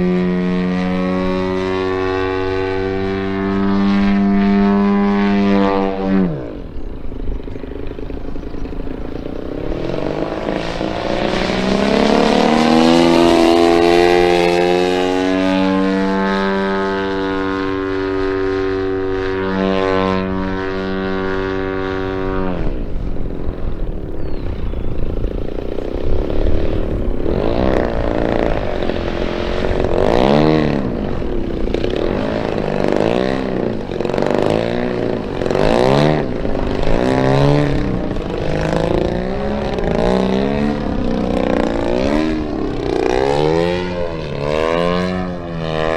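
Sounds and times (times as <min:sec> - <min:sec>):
model airplane engine and propeller: 0:00.0 - 0:45.9.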